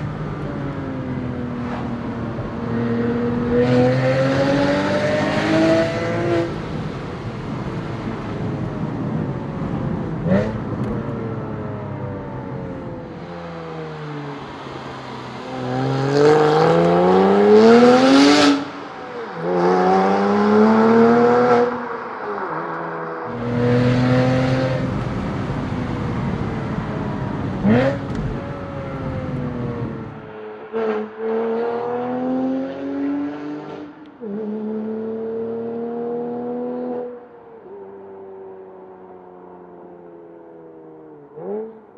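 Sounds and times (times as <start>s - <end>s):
car engine accelerating: 0.0s - 37.3s.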